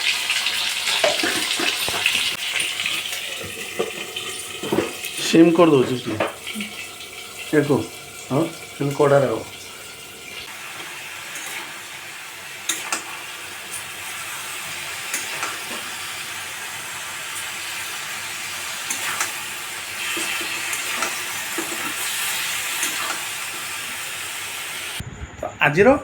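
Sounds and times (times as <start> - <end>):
food hissing on stove: 0.0 - 8.5, 9.7 - 25.0.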